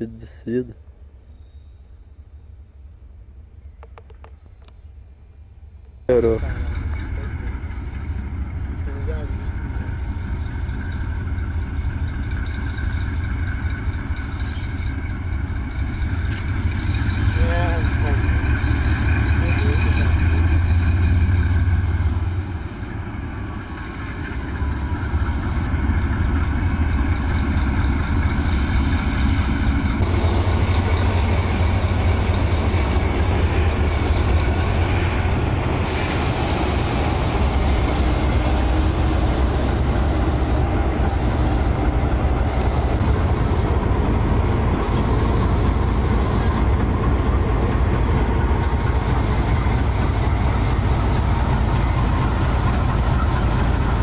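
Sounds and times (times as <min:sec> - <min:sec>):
diesel locomotives idling: 0:02.4 - 0:54.0
wagons rumbling over rails: 0:05.7 - 0:54.0.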